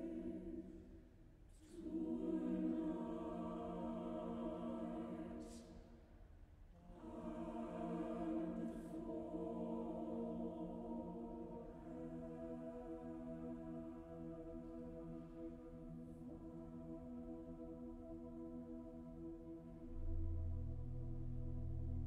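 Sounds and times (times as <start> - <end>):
choir singing held chords: 0.0 - 0.8, 1.6 - 5.9, 6.8 - 22.0.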